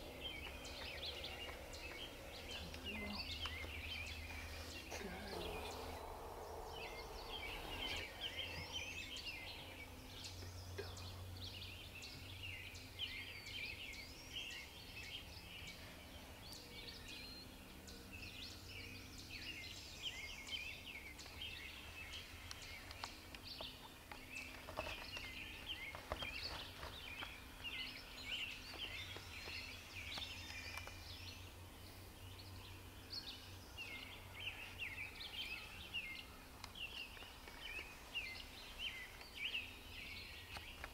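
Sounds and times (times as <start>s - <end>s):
low steady hum: 0.0s - 40.9s
songbirds chirping and singing: 0.0s - 40.9s.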